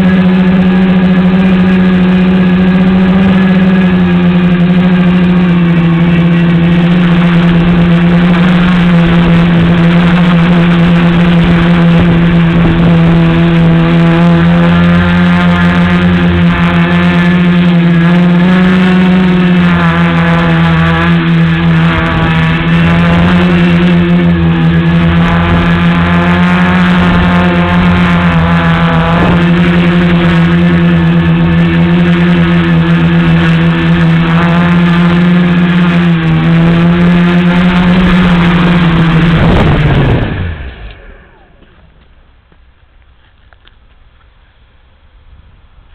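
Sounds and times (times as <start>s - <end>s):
drone motors and propellers buzzing: 0.0s - 45.9s.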